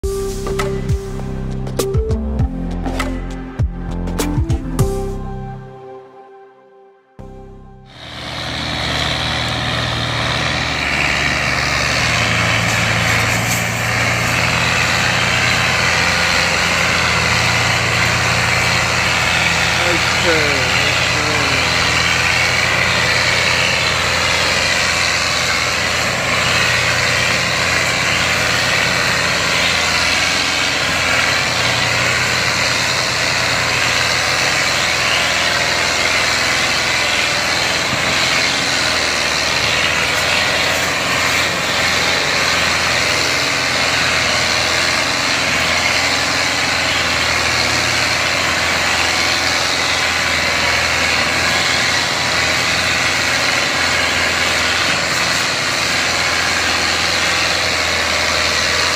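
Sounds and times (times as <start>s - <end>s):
tractor diesel engines under load: 0.0s - 5.3s, 7.2s - 58.9s.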